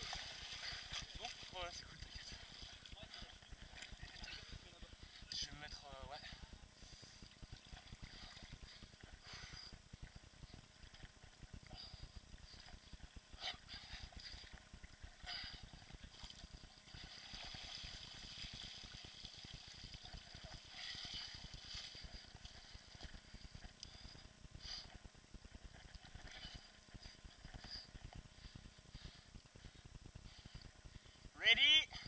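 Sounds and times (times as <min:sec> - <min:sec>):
faint moving water: 0:00.0 - 0:32.0.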